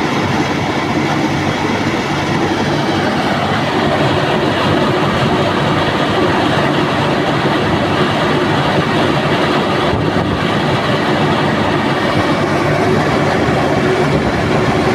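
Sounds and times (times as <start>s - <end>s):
refrigeration unit running: 0.0s - 14.9s.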